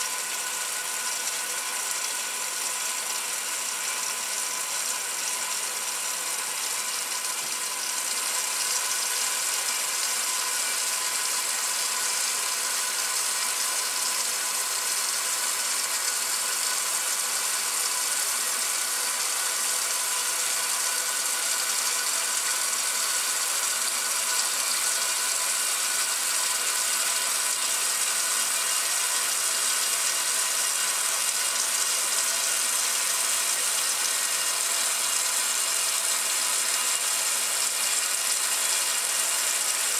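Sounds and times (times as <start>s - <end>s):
washing machine agitating: 0.0s - 39.9s.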